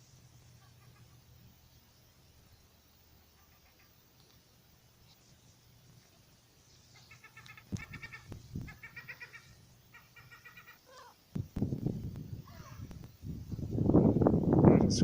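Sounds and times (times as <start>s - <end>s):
chattering alarm calls: 0.5s - 11.6s, 12.3s - 15.0s.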